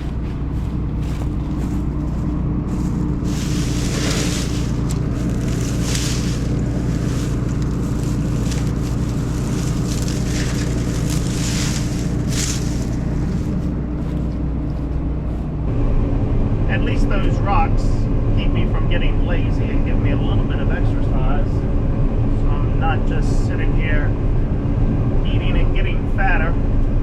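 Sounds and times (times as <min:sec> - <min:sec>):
low machine drone: 0:00.0 - 0:27.0.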